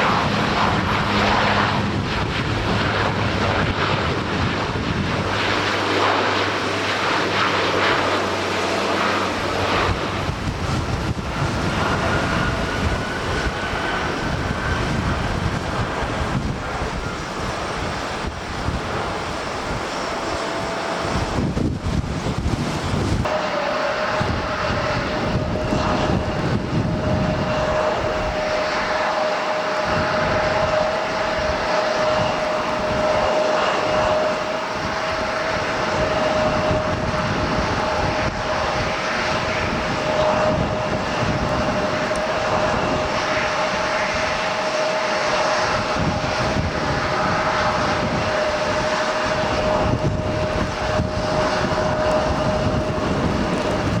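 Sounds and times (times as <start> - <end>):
airliner engines roaring: 0.0 - 54.0
engine whine: 0.0 - 54.0.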